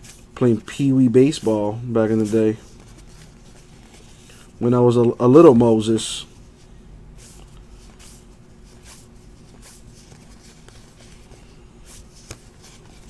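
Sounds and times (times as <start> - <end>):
faint steady hum: 0.0 - 13.0
trading cards rustling: 0.1 - 5.1, 7.2 - 13.0.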